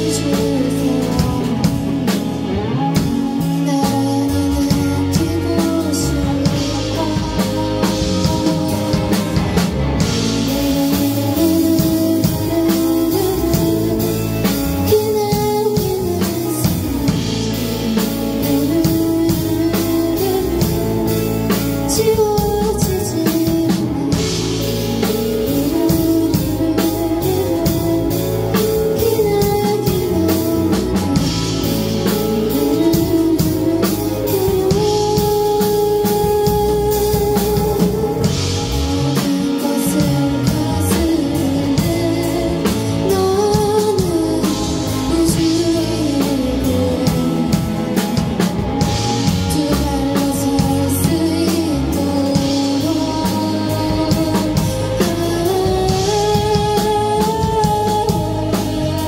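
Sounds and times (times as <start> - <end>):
drum kit: 0.0 - 59.0
electric guitar: 0.0 - 59.0
woman singing into microphone: 0.0 - 59.0.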